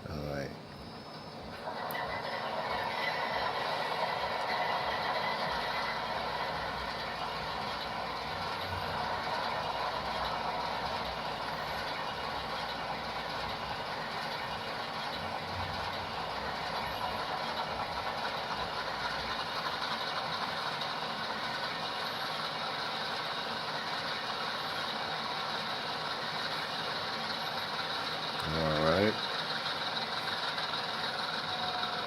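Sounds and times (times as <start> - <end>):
model locomotive engine sounds idling: 0.0 - 32.0.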